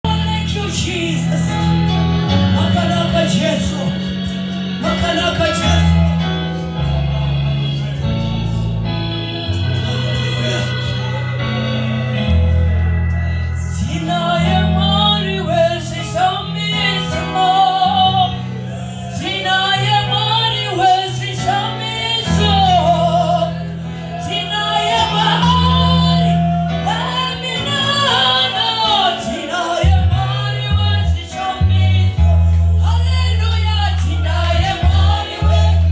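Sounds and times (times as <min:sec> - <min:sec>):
gospel singing: 0:00.0 - 0:35.9
instrumental backing: 0:00.0 - 0:35.9.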